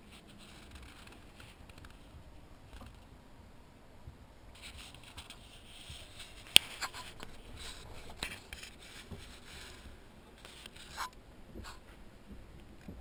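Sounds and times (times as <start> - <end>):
light clicks and scrapes: 0.0 - 3.1, 4.5 - 12.0.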